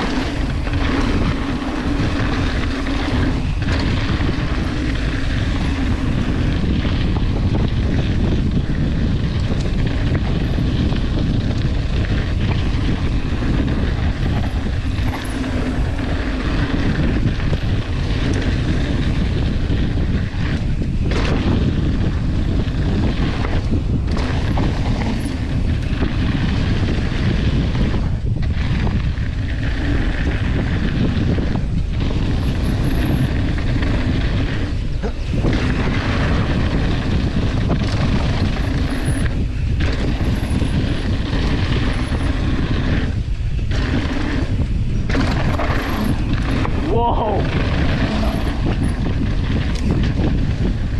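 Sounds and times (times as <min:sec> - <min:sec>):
bike tyres rolling over gravel: 0:00.0 - 0:50.9
wind on microphone: 0:00.0 - 0:50.9.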